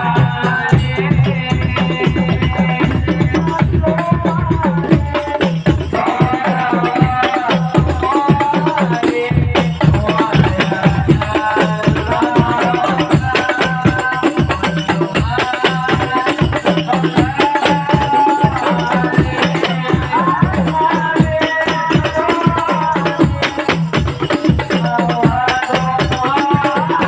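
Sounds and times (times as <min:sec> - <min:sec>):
devotional singing: 0:00.0 - 0:27.0
hand drum percussion: 0:00.0 - 0:27.0.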